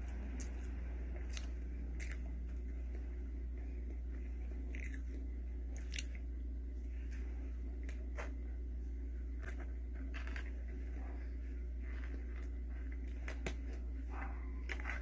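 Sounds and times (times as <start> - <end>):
soft wet chewing: 0.0 - 8.6, 9.3 - 15.0
steady low hum: 0.0 - 15.0.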